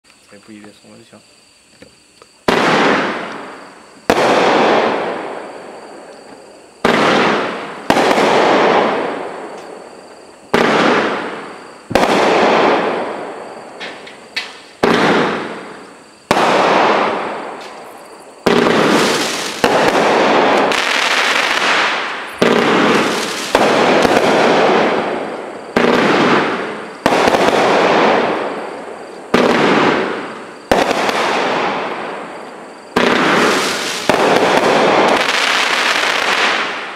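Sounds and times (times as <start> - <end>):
fireworks bangs: 1.8 - 36.9.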